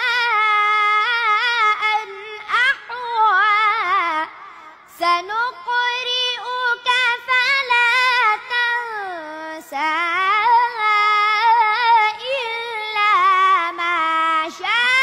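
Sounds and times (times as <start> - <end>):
boy chanting melodically: 0.0 - 15.0.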